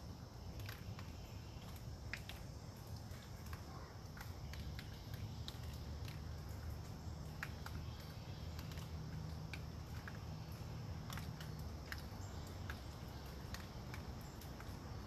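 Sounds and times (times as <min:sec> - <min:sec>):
water dripping onto leaves: 0:00.0 - 0:15.0.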